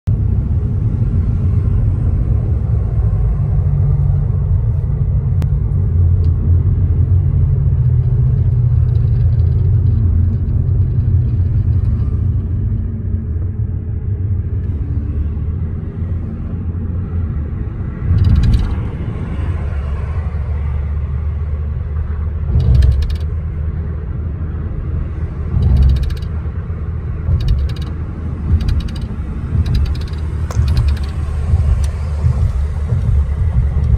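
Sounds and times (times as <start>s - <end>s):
car road rumble from cabin: 0.1s - 33.9s.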